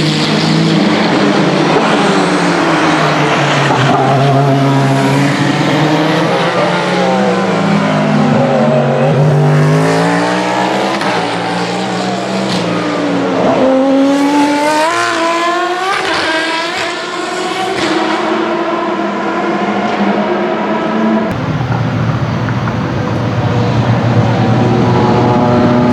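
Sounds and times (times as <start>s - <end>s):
race car engine at high revs: 0.0s - 25.9s.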